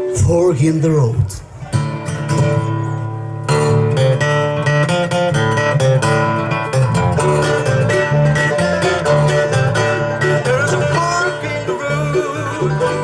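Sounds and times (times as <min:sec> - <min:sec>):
live country band playing: 0:00.0 - 0:13.0
strummed acoustic guitar: 0:01.4 - 0:13.0.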